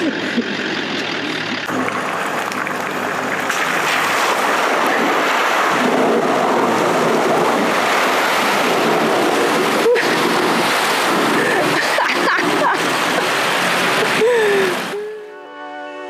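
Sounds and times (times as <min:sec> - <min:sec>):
car engine: 0:00.0 - 0:15.0
mud and water sloshing: 0:00.4 - 0:15.0.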